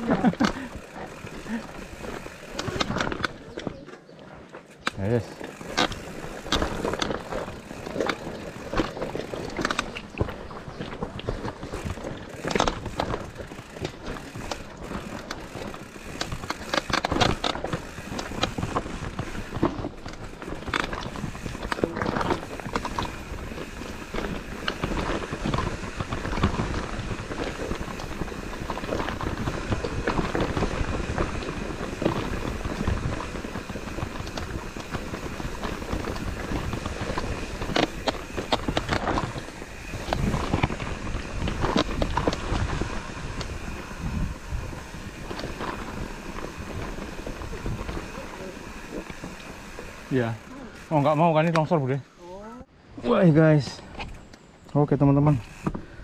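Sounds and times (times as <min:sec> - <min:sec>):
bike rattling clicks and knocks: 0:00.0 - 0:52.0, 0:53.5 - 0:56.0
bike tyre noise on dirt: 0:00.0 - 0:56.0.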